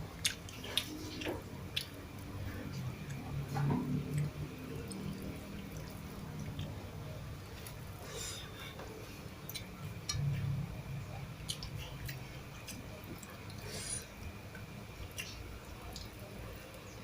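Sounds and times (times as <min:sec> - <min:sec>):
person chewing food: 0:00.2 - 0:06.8, 0:07.5 - 0:10.5, 0:11.4 - 0:16.2.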